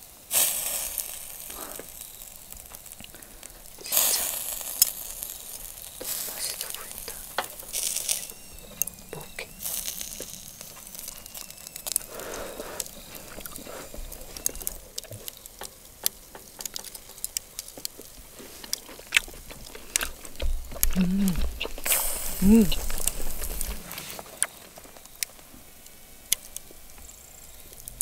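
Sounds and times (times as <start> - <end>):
fire crackling and popping: 0.0 - 28.0
meat sizzling on a grill: 0.0 - 28.0.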